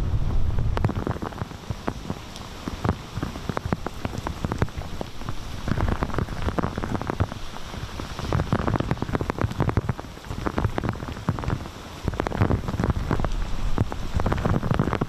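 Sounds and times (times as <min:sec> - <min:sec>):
heavy rain: 0:00.0 - 0:15.0
wind gusts hitting microphone: 0:00.0 - 0:15.0.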